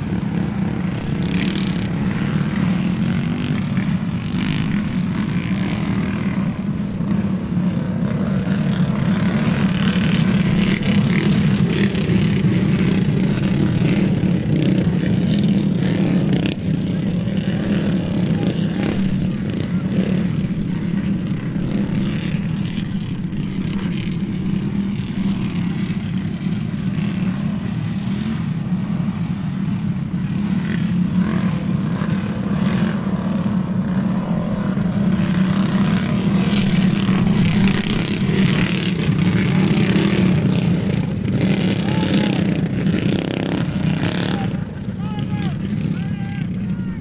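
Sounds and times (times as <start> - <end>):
racing engines droning: 0.0 - 47.0.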